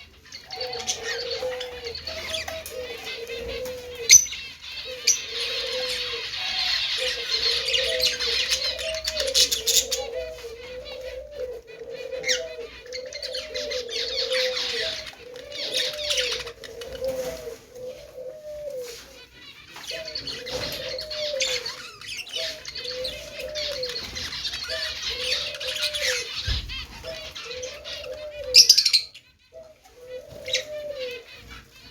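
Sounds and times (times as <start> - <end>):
budgies chattering and chirping: 0.0 - 31.9
low cooing call: 0.5 - 4.3, 4.9 - 19.2, 19.9 - 31.3.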